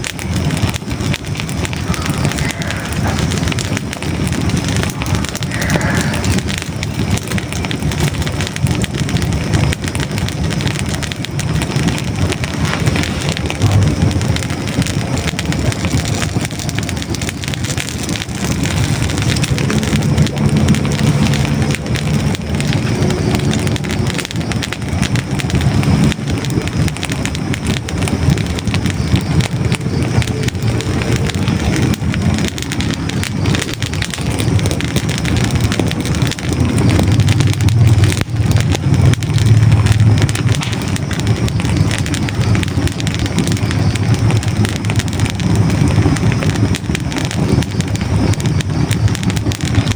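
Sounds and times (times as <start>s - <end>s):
fire crackling: 0.0s - 49.9s
flame rushing: 0.0s - 49.9s.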